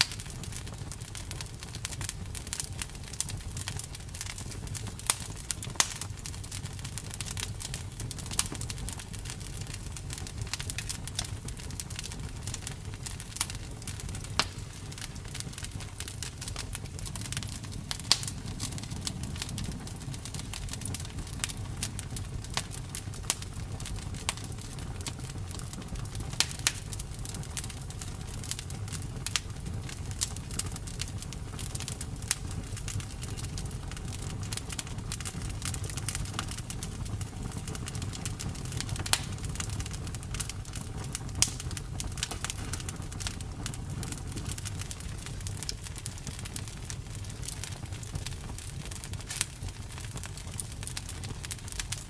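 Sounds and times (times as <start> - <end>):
low rumble of flames: 0.0 - 52.0
wood crackling and popping: 0.0 - 52.0.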